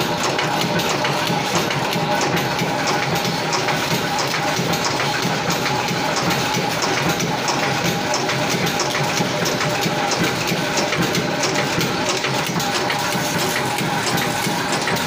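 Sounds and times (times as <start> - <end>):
factory machinery humming and clicking: 0.0 - 15.0.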